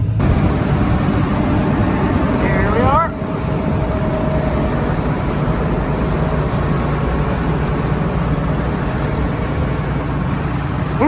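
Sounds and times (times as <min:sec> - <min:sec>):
harvester engine humming: 0:00.0 - 0:11.0.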